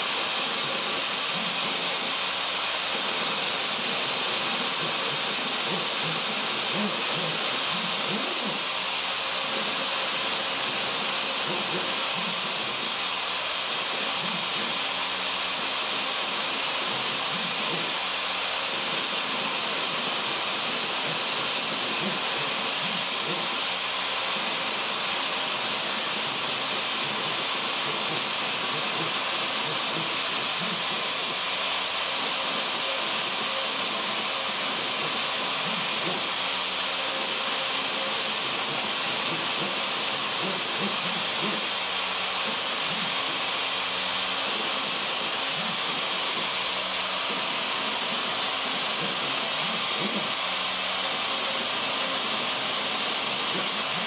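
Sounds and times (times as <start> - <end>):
router whining: 0.0 - 54.0.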